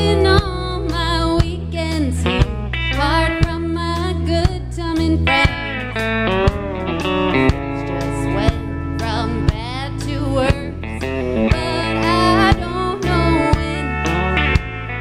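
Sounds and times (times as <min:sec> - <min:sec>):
woman singing: 0:00.0 - 0:05.6, 0:07.8 - 0:14.5
country band playing: 0:00.0 - 0:15.0.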